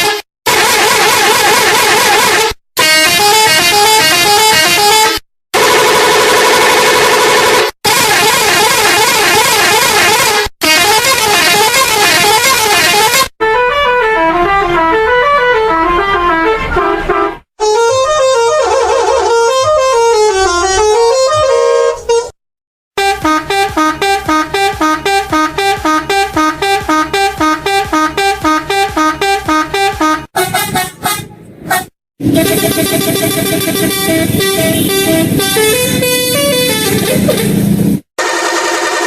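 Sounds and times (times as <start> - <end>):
multi-tone air horn melodies: 0.0 - 22.4, 23.0 - 39.0.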